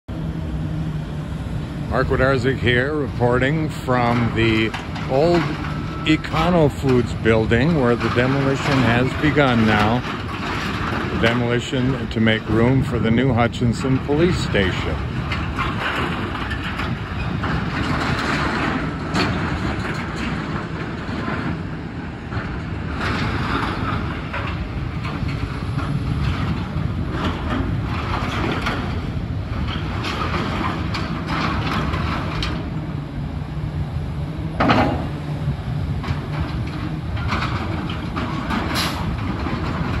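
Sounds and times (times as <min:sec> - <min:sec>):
excavator diesel engine: 0:00.1 - 0:40.0
crunching and scraping metal: 0:01.9 - 0:33.3, 0:34.4 - 0:40.0.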